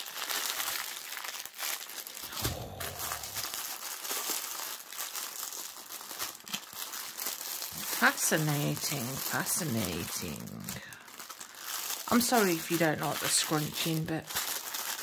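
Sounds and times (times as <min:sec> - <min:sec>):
thin plastic packets crinkling: 0:00.0 - 0:15.0.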